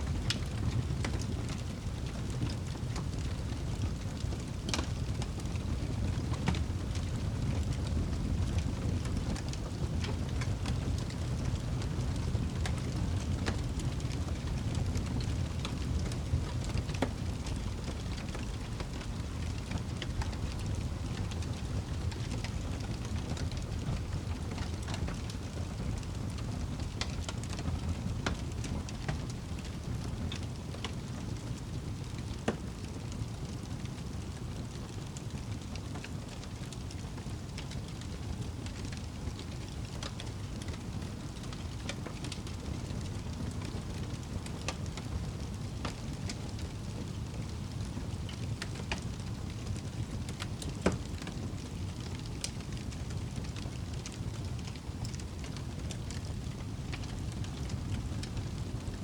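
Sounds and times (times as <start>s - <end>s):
wood fire crackling: 0.0s - 59.0s
fire popping: 0.1s - 58.9s.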